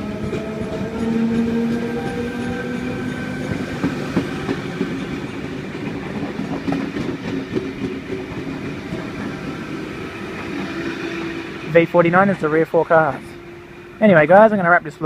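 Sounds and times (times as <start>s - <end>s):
train wheels clicking over rail joints: 0.0s - 14.5s
steady train motor tone: 0.0s - 15.0s.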